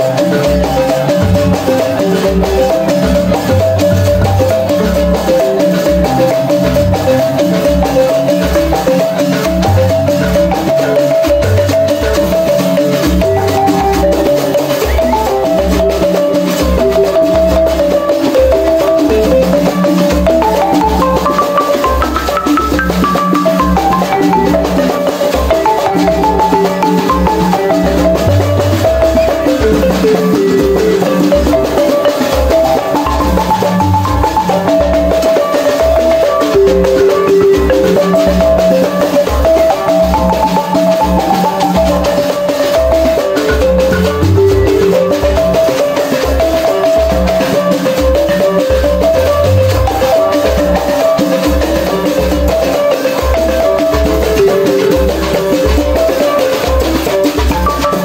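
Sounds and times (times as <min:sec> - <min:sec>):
balafon played fast with mallets: 0:00.0 - 0:58.0.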